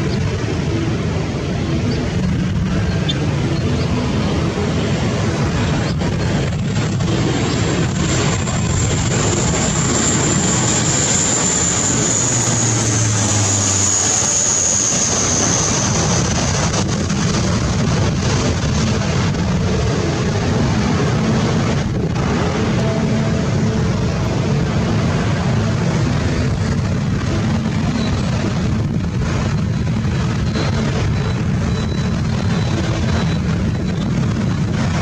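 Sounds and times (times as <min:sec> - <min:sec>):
high engine whine: 0:00.0 - 0:35.0
turboprop engines running: 0:00.0 - 0:35.0.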